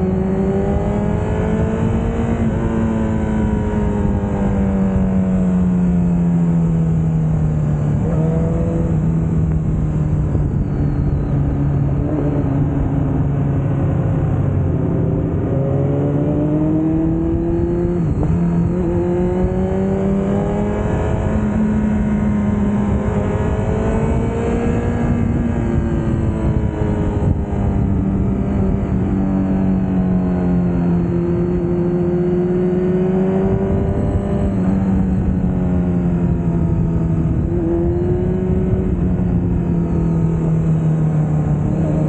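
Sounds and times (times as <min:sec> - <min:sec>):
motorcycle engines revving: 0:00.0 - 0:42.0
wind noise: 0:00.0 - 0:42.0.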